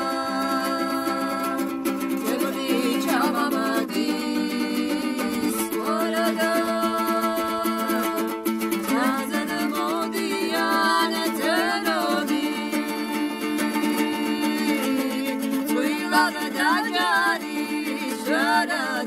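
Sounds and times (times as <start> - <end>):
strummed lute: 0.0 - 19.0
two women singing together: 0.0 - 19.0.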